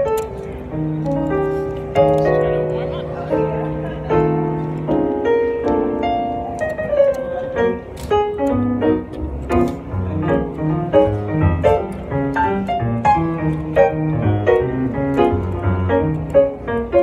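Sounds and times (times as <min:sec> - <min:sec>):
piano playing: 0:00.0 - 0:17.0.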